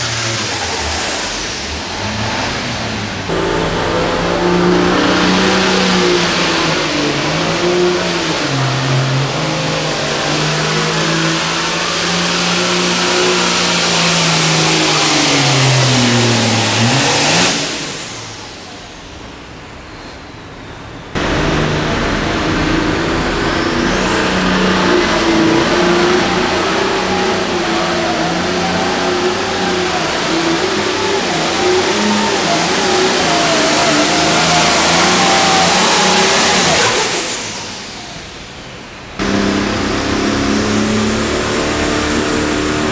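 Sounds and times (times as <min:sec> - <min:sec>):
tractor engine at high revs: 0:00.0 - 0:19.8, 0:21.1 - 0:42.9
diesel tractor engine at full power: 0:00.0 - 0:42.9.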